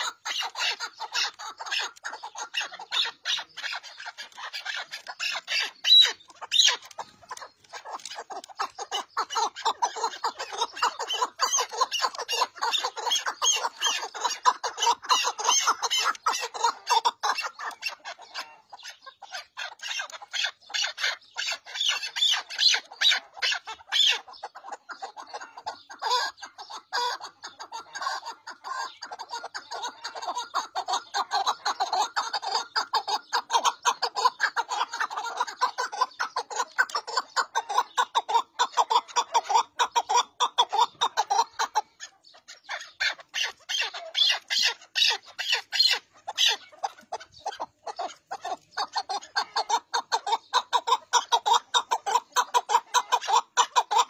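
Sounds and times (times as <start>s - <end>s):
partridge harsh clucking calls: 0.0s - 54.0s.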